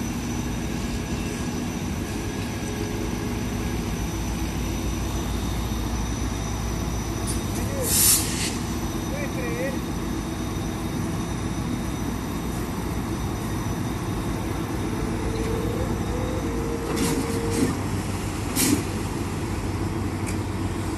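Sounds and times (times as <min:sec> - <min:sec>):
diesel locomotive engine rumble: 0:00.0 - 0:20.9.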